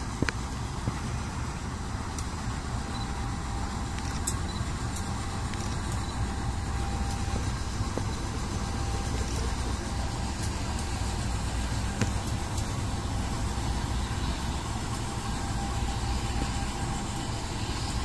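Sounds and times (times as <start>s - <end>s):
diesel locomotive rumble: 0.0s - 18.0s.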